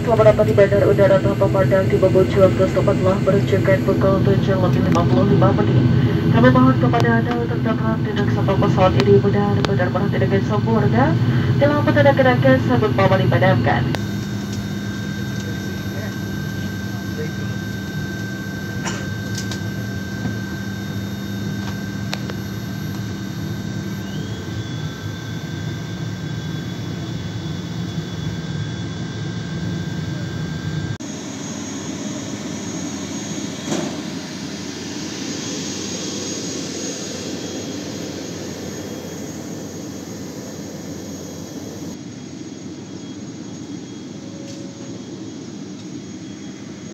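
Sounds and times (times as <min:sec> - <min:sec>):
propeller engine drone in cabin: 0:00.0 - 0:46.9
turbine noise with high whine: 0:00.0 - 0:46.9.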